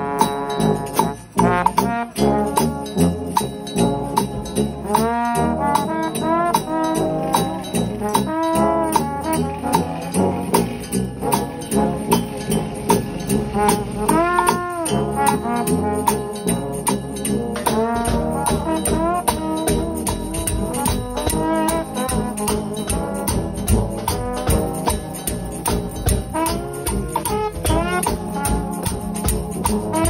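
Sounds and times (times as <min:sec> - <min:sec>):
brass band playing: 0:00.0 - 0:30.0
drum kit and cymbals: 0:00.0 - 0:30.0.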